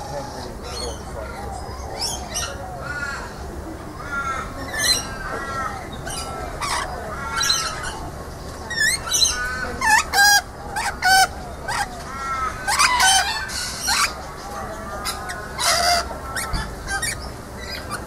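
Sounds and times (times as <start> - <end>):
lorikeets squawking and chattering: 0.0 - 18.0.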